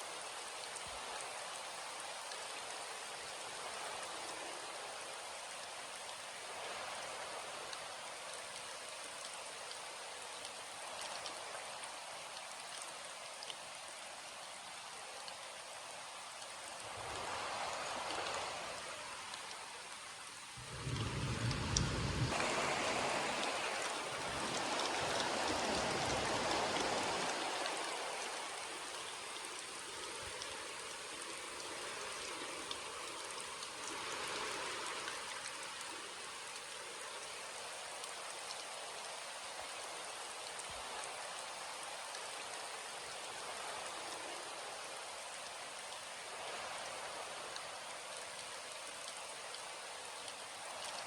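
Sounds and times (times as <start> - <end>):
heavy rain hiss: 0.0 - 51.0.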